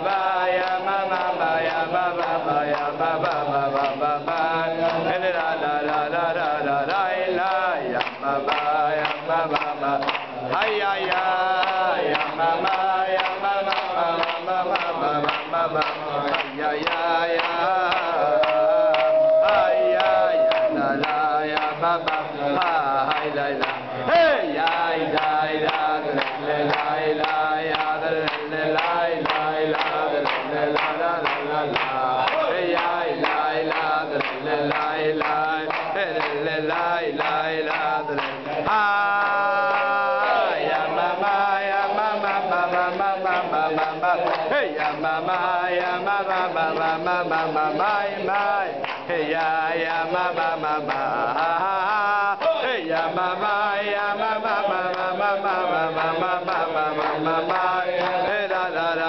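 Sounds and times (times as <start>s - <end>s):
men singing together: 0.0s - 59.0s
rhythmic hand clapping: 0.0s - 59.0s.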